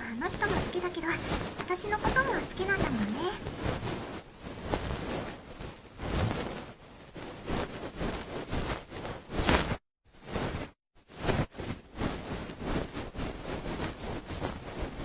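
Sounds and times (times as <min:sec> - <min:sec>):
fur rubbing on microphone: 0:00.2 - 0:15.0.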